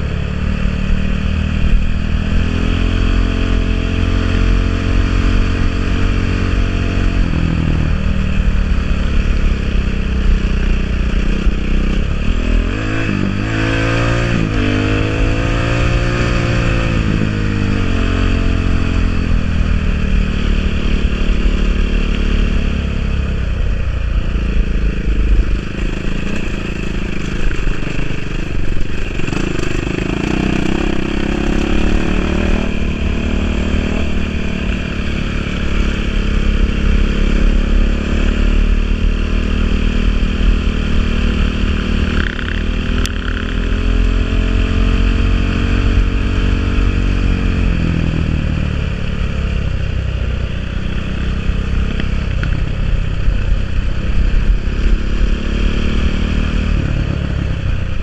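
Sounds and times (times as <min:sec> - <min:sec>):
dirt bike engine revving: 0:00.0 - 0:23.1, 0:24.3 - 0:58.0.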